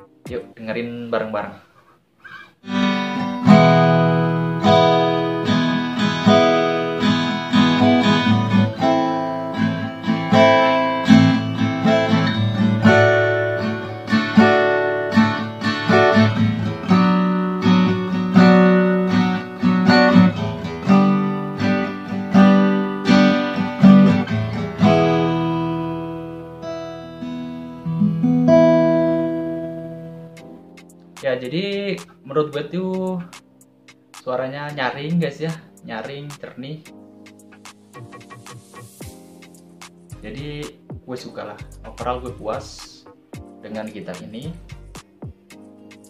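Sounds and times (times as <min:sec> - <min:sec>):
acoustic guitar strumming chords: 0:02.3 - 0:34.3, 0:35.4 - 0:46.0.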